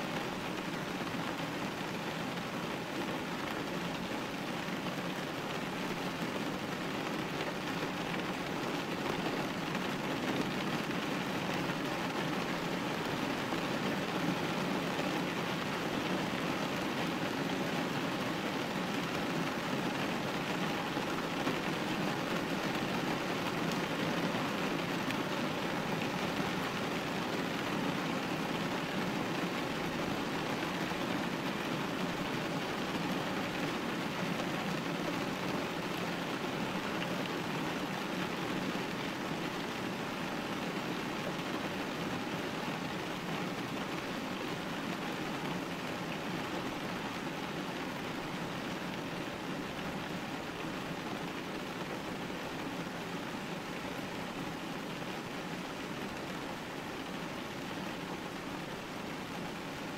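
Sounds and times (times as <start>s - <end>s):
rain pattering on a window: 0.0s - 59.9s.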